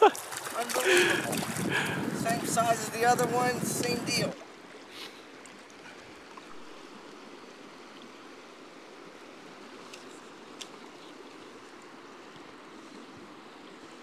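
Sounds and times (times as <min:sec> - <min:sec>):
stream water rushing over rocks: 0:00.0 - 0:12.2.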